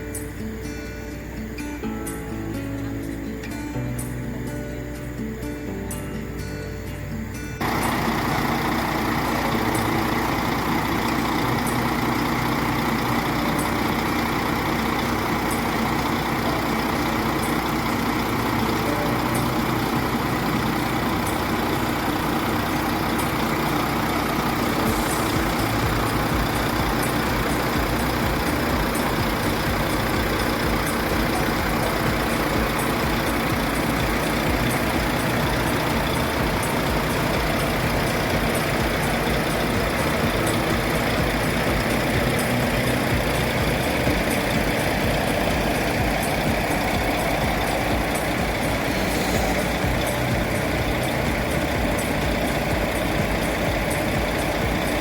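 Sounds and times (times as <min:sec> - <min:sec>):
heavy truck engine idling: 0:00.0 - 0:55.0.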